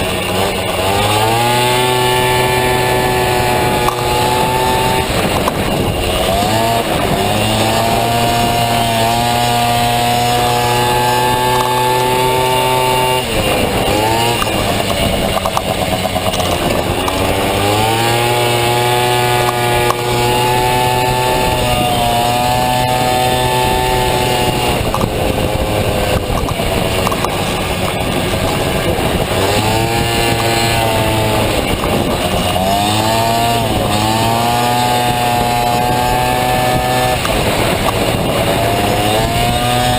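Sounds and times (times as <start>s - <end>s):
two-stroke scooter engine revving: 0.0s - 39.9s.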